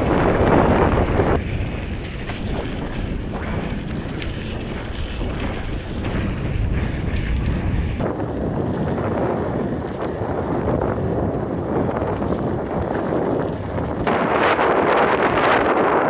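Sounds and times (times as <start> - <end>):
bike clicks: 0.0 - 14.1
rough low rumble: 0.0 - 16.0
wind buffeting microphone: 0.0 - 16.0.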